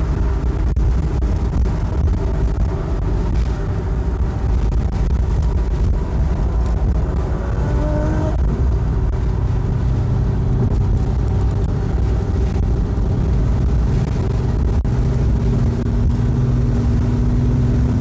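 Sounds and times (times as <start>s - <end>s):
engine and road noise in car: 0.0s - 18.0s.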